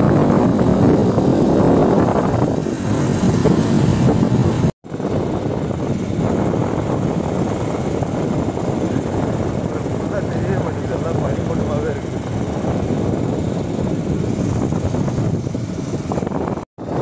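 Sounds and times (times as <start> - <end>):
motorcycle running: 0.0 - 17.0
road noise: 0.0 - 17.0
wind rushing over microphone: 0.0 - 17.0.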